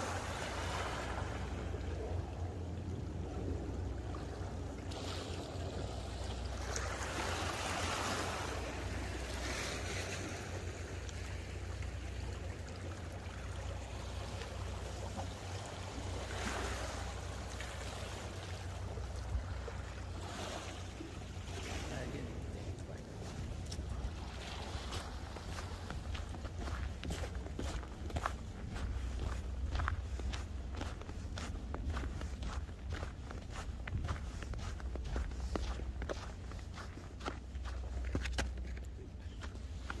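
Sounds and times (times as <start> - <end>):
sea water washing against shore: 0.0 - 40.0
steady low rumble: 0.0 - 40.0.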